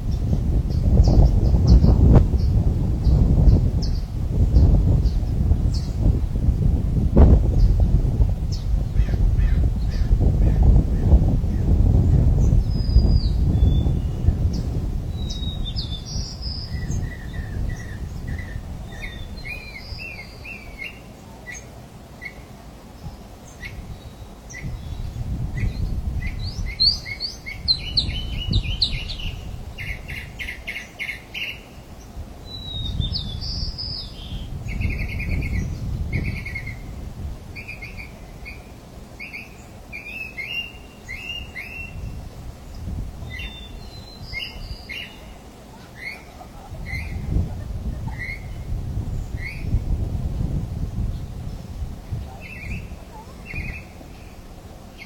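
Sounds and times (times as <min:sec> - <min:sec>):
birds chirping: 0:00.0 - 0:06.2, 0:08.5 - 0:55.0.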